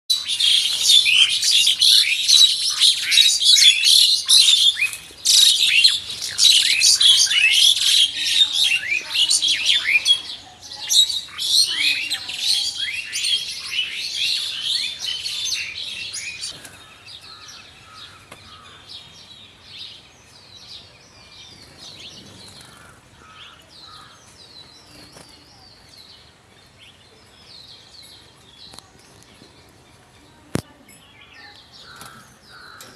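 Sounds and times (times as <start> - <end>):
small birds chirping: 0.1 - 32.9.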